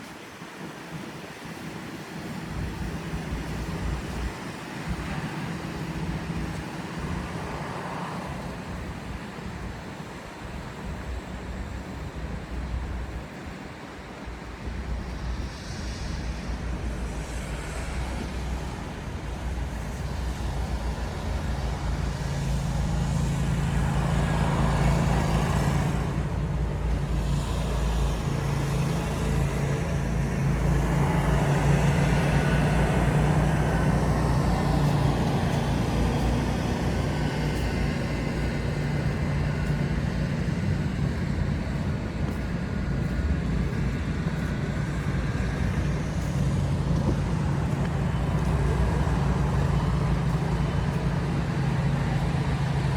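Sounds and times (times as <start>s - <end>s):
low engine hum: 0.0s - 52.9s
tyres hissing on snowy street: 0.0s - 52.9s.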